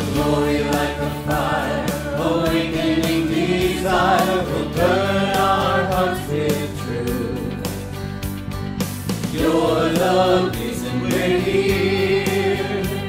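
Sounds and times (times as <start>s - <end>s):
choir singing a hymn: 0.0s - 8.0s, 9.3s - 13.0s
electric bass: 0.0s - 13.0s.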